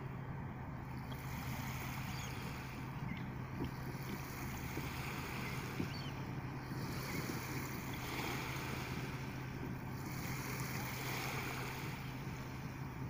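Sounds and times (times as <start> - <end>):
sea surf: 0.0 - 13.0
wind: 0.0 - 13.0.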